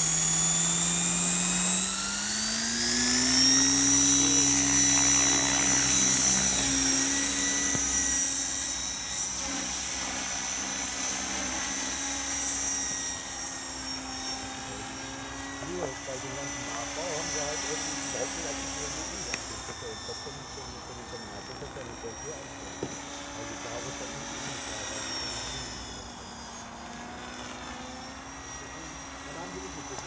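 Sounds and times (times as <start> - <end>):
model helicopter rotor whine: 0.0 - 30.0.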